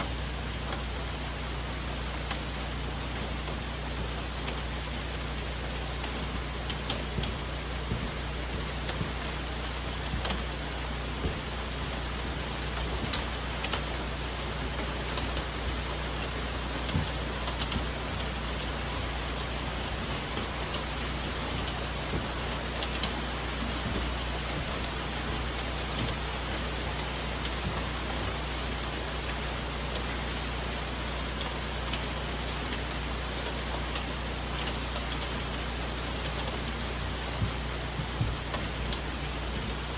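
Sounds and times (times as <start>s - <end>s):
rain falling on leaves: 0.0s - 39.9s
raindrops tapping: 0.0s - 39.9s.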